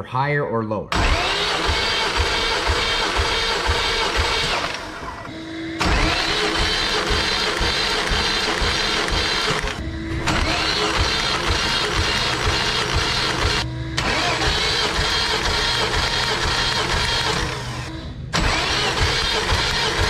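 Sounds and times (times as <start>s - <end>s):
engine cranking on starter: 0.9s - 20.0s.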